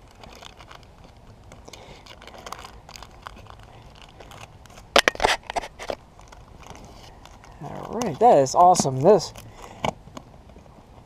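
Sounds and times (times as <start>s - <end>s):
plastic crinkling and rustling: 0.0s - 11.0s.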